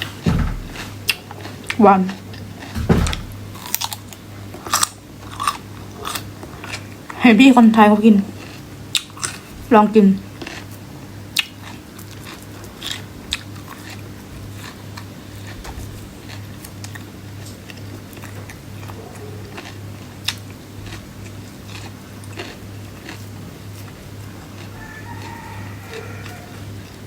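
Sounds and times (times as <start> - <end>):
person chewing crisp vegetables: 0.0 - 7.2, 7.8 - 27.0.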